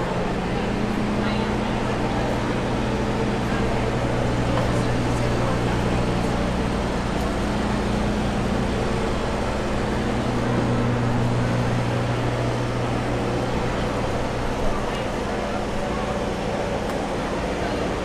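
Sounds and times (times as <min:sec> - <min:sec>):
machine humming steadily: 0:00.0 - 0:18.0.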